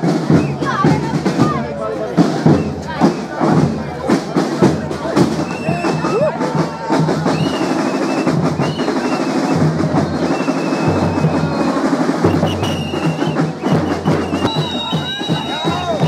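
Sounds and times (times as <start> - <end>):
drum band playing fast beat: 0.0 - 16.0.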